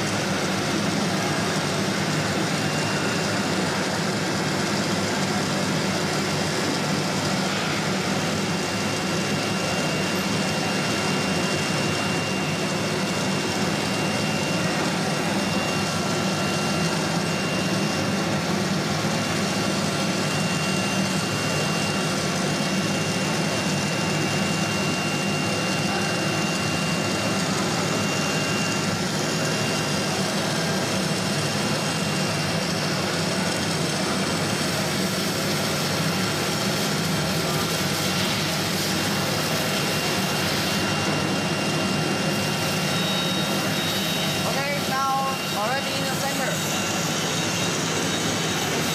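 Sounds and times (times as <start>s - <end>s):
workshop machinery whirring: 0.0s - 48.9s
faint high whine: 6.6s - 32.7s, 35.3s - 48.9s.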